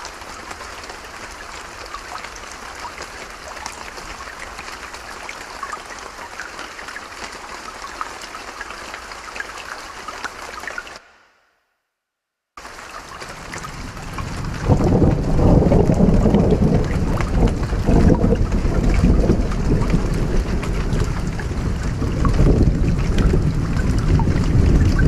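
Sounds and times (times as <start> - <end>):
creek water rushing: 0.0 - 11.0, 12.6 - 25.0.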